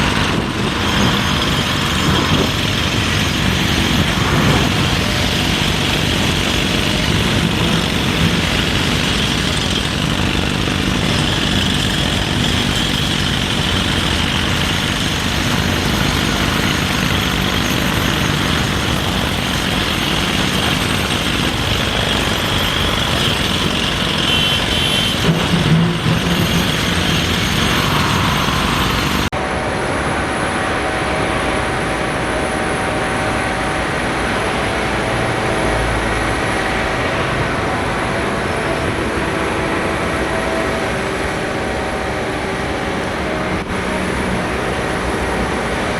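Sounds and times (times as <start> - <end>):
engine hum with high whine: 0.0 - 45.9
excavator diesel engines running: 0.0 - 45.9.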